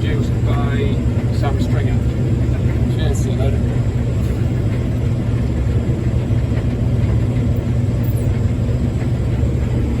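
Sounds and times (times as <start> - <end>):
diesel engine rumble: 0.0 - 10.0.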